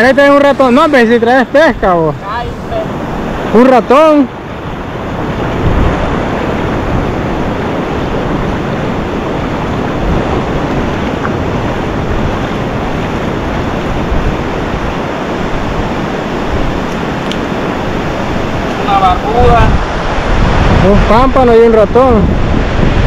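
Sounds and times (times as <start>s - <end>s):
surf washing on sand: 0.0s - 23.0s
wind buffeting microphone: 0.0s - 23.0s.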